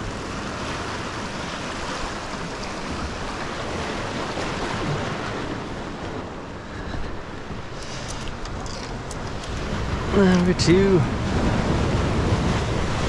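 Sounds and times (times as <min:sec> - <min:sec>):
ocean surf washing on beach: 0:00.0 - 0:13.0
wind on microphone: 0:00.0 - 0:13.0.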